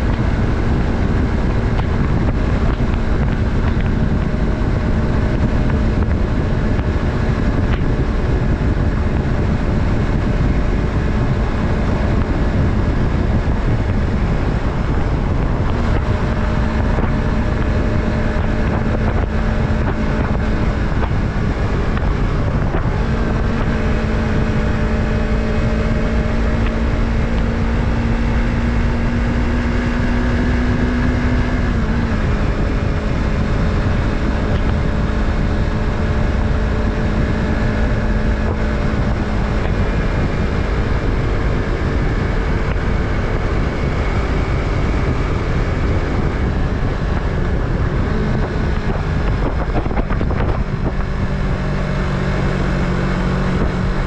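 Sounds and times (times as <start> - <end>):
motorcycle engine cruising: 0.0 - 54.0
wind rush on microphone: 0.0 - 54.0.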